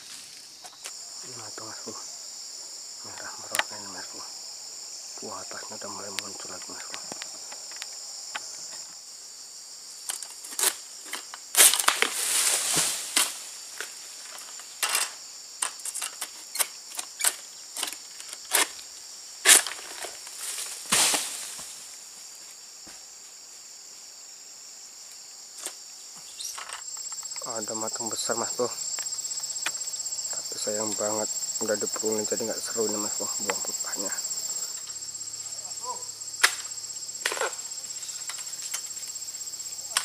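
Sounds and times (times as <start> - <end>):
insect chorus: 0.0 - 40.0.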